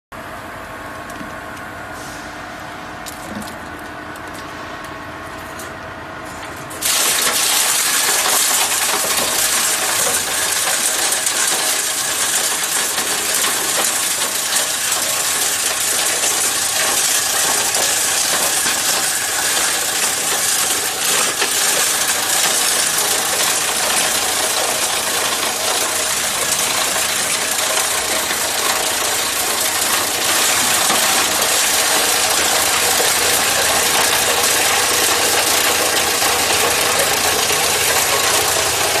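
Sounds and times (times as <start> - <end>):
machine humming: 0.2 - 39.0
plastic clattering and crunching: 3.0 - 4.5, 5.4 - 39.0.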